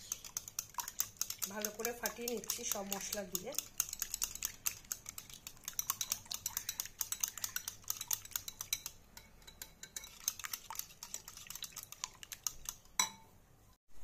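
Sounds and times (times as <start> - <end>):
whisk clicking against glass bowl: 0.0 - 13.2.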